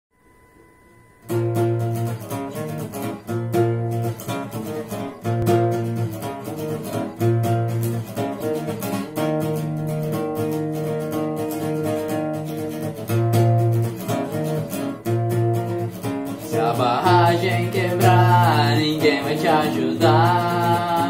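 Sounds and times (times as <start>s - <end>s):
acoustic guitar strumming: 0.2s - 21.0s.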